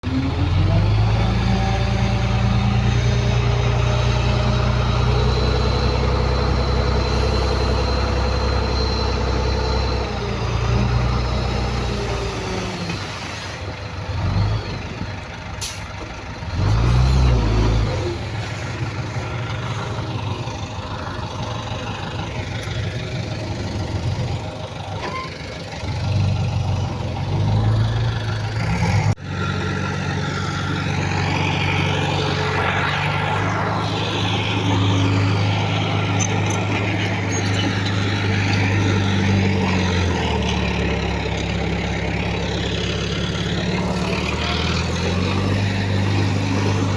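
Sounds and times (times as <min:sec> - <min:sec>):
heavy diesel engine surging: 0:00.0 - 0:46.9.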